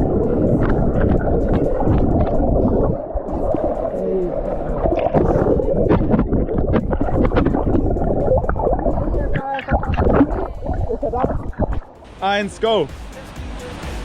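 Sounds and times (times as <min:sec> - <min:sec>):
water splashes: 0:00.0 - 0:12.8
sea water surging and sloshing: 0:00.0 - 0:14.0.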